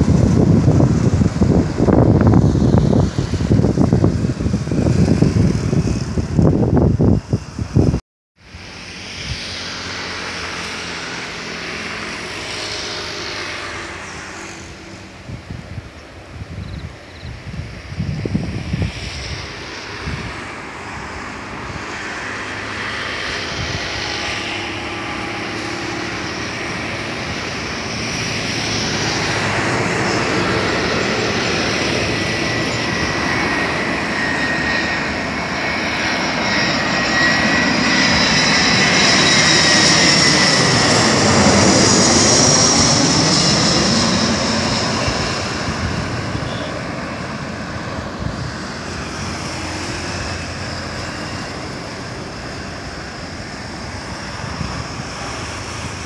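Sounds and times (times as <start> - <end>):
jet airliner passing overhead: 0.0 - 56.0.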